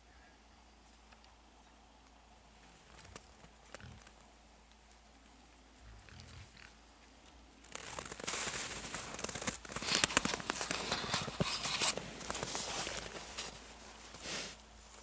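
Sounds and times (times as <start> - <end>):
wild boar rooting in snow: 0.6 - 15.0.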